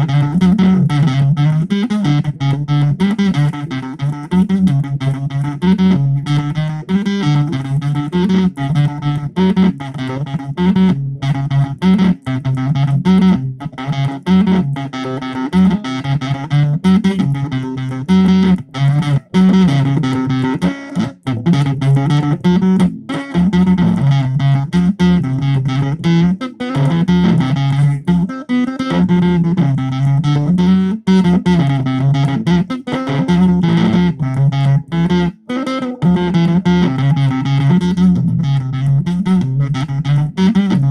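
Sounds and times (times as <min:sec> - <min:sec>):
distorted electric guitar riff: 0:00.0 - 0:40.9.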